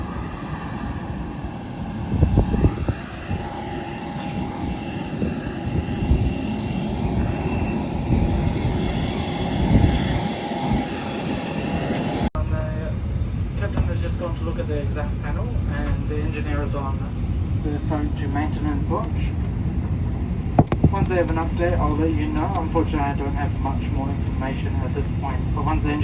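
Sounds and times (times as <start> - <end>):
airplane cabin hum and hiss: 0.0 - 26.0.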